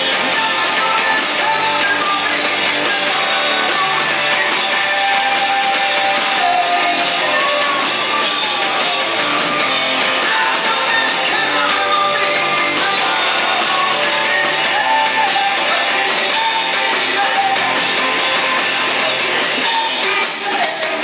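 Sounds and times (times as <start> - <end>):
drums: 0.0 - 21.0
electric guitar: 0.0 - 21.0
person singing: 0.0 - 21.0.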